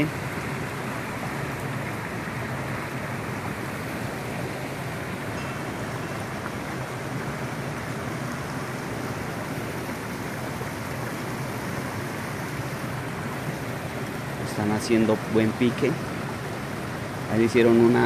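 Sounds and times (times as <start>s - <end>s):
stream rushing over boulders: 0.0s - 18.0s.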